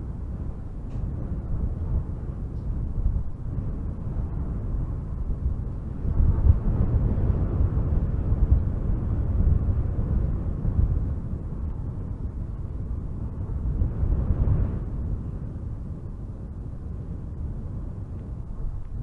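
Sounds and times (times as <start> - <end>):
strong wind gusting through trees: 0.0 - 19.0.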